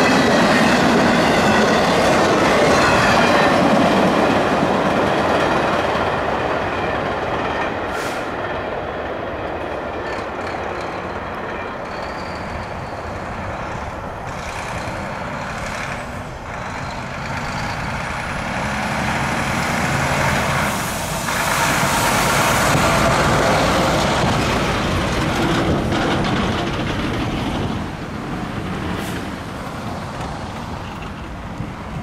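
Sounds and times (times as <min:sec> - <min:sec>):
freight train rumbling and rattling: 0:00.0 - 0:32.0.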